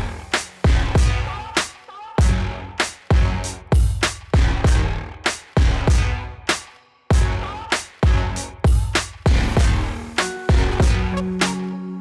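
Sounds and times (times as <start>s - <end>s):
electronic music with heavy drum beat: 0.0s - 12.0s.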